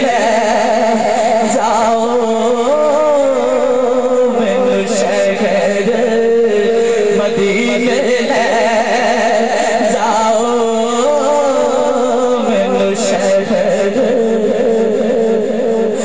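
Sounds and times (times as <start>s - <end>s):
low held drone tone: 0.0s - 16.0s
man singing devotional song: 0.0s - 16.0s.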